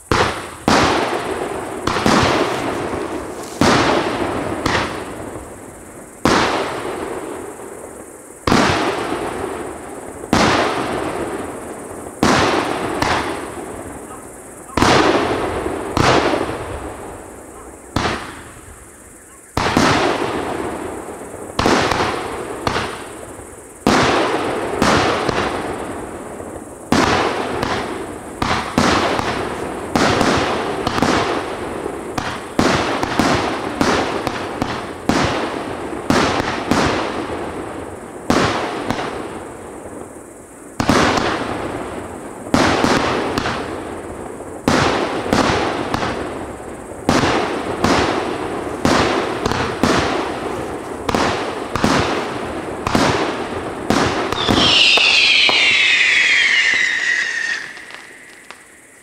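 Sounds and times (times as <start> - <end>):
firework bangs: 0.0 - 40.1, 40.8 - 59.0.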